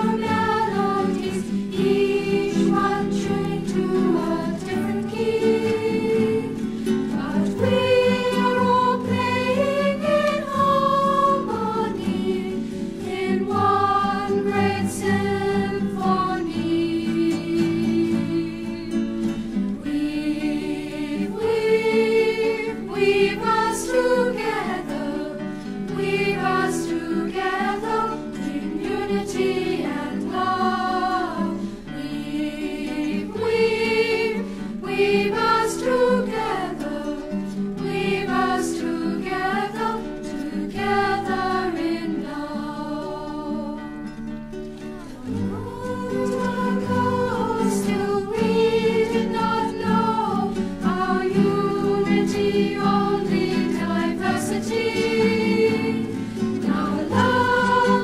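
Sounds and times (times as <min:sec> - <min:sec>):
song with voices singing: 0:00.0 - 0:58.0.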